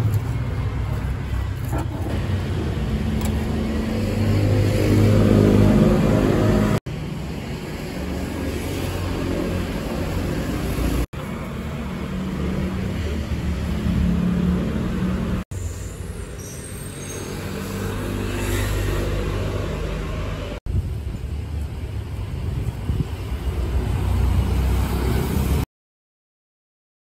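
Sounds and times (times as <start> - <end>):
street traffic engine hum: 0.0 - 25.7.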